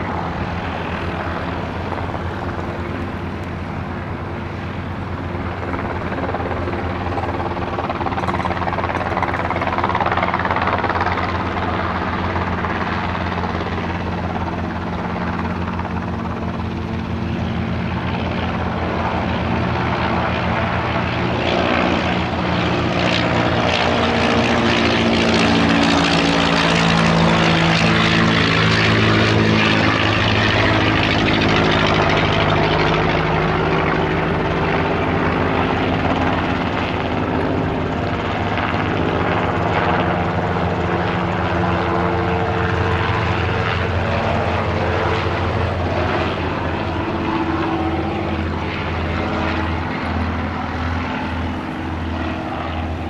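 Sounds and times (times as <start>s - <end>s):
helicopter rotor beating: 0.0s - 53.0s
propeller plane engine droning: 0.0s - 53.0s.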